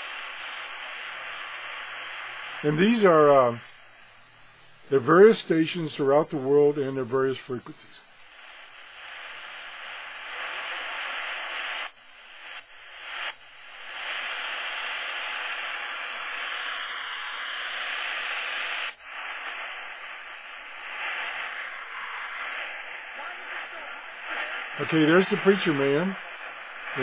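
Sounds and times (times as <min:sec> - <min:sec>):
shortwave radio static hiss: 0:00.0 - 0:27.0.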